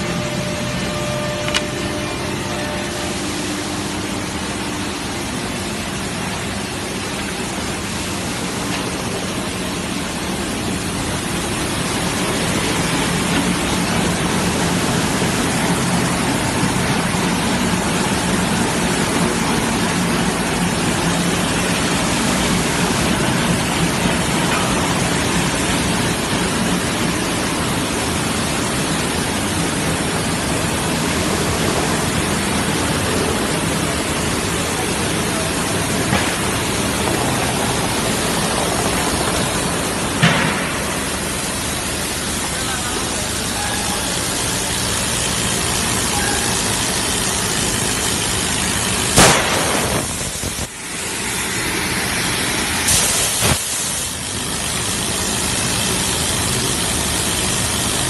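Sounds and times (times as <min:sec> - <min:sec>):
sanding machine running: 0:00.0 - 0:58.0.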